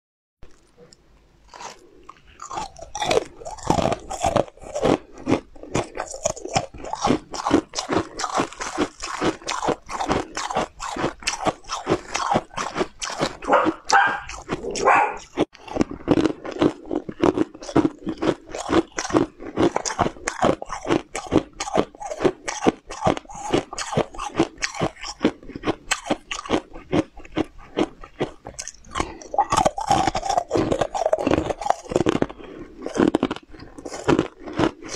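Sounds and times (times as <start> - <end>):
person chewing crunchy food: 0.4 - 34.9.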